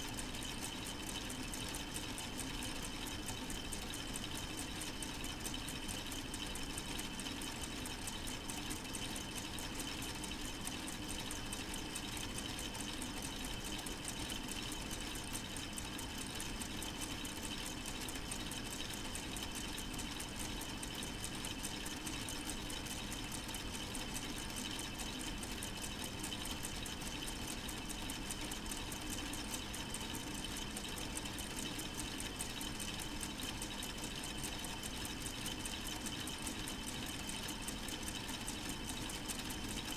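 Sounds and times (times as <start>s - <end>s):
model engine clicking whir: 0.0s - 39.9s.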